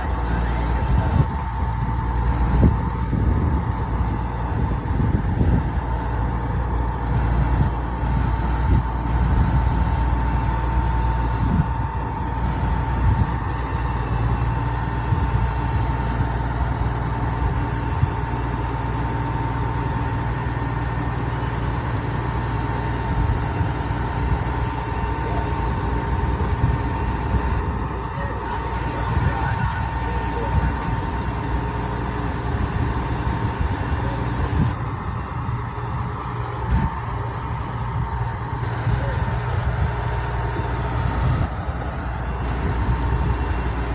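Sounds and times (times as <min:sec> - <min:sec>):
heavy engine rumbling: 0:00.0 - 0:43.9
thin steady whine: 0:00.0 - 0:43.9.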